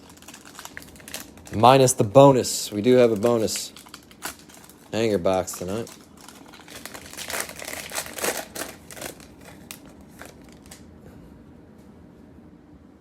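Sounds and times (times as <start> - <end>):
foil wrapper crinkling and tearing: 0.0 - 10.9.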